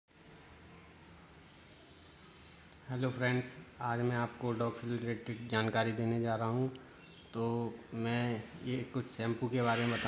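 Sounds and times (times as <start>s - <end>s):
steady low hiss: 0.1s - 10.0s.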